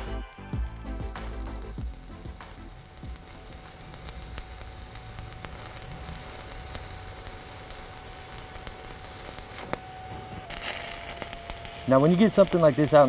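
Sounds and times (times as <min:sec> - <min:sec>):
welding arc crackling and sizzling: 0:00.0 - 0:13.0.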